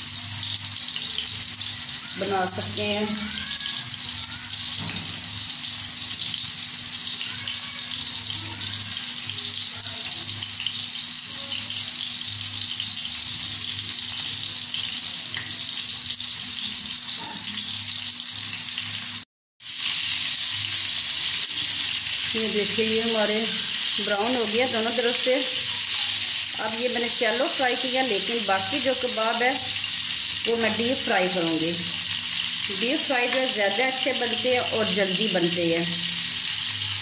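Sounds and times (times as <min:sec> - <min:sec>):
kebabs sizzling in hot oil: 0:00.0 - 0:37.0.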